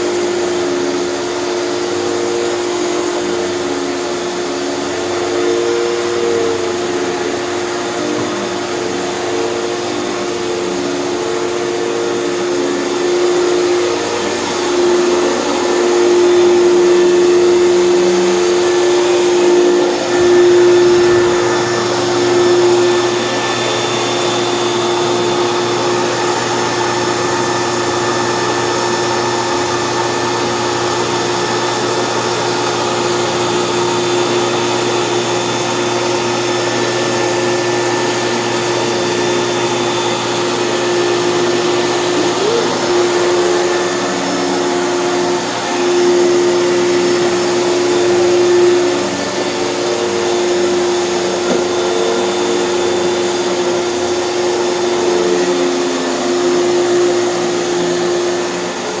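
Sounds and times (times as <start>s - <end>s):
vacuum cleaner motor whine: 0.0s - 59.0s.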